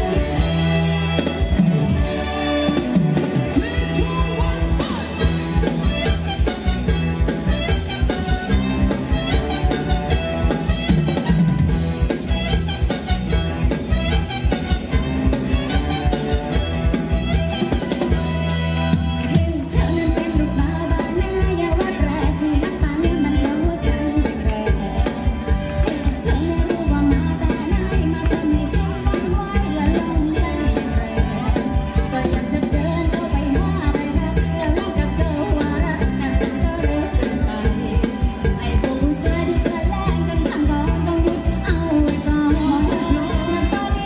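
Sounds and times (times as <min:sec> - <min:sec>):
drum kit beat: 0:00.0 - 0:44.0
live band dance music: 0:00.0 - 0:44.0.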